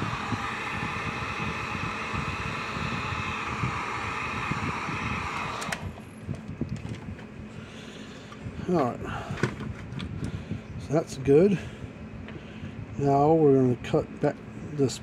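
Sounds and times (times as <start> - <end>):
heat gun fan blowing: 0.0 - 15.0.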